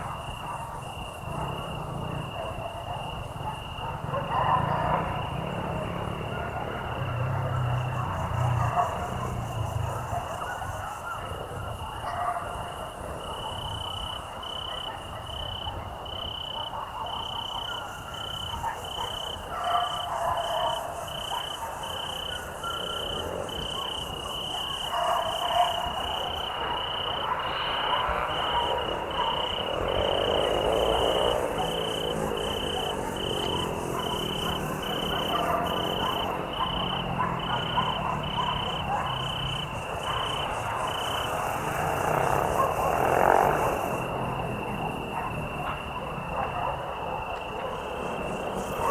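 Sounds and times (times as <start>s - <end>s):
cricket chirping: 0.0s - 48.9s
frogs croaking: 0.0s - 48.9s.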